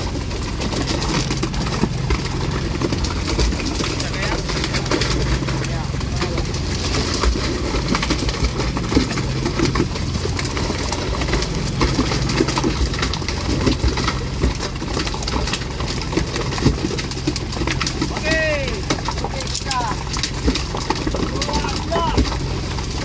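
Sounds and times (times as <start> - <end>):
boat engine idling: 0.0 - 23.0
knocks and clatter: 0.0 - 23.0.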